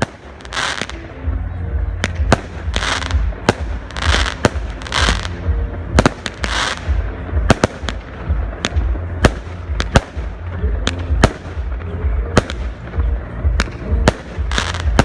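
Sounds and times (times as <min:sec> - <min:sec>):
firework bangs: 0:00.0 - 0:01.1, 0:02.0 - 0:15.0.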